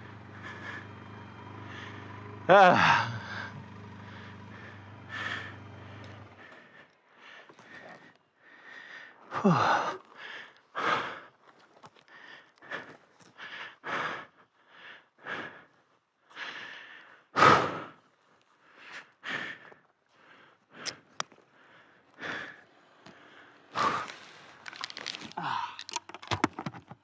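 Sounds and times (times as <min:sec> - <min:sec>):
person breathing hard: 0:00.0 - 0:11.4, 0:12.0 - 0:26.0.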